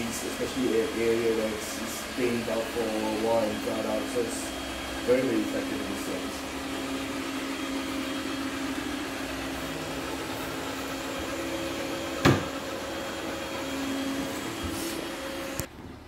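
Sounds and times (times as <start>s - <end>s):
robot vacuum motor and fan hum: 0.0s - 16.0s.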